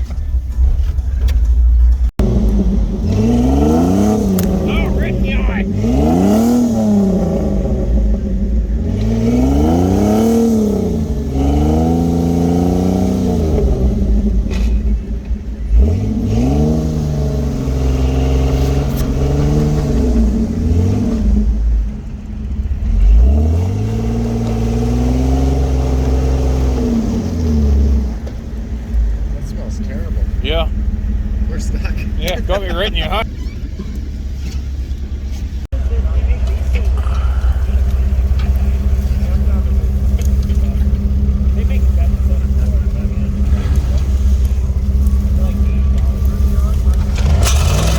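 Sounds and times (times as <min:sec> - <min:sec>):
off-road vehicle engine revving: 0:00.0 - 0:47.9.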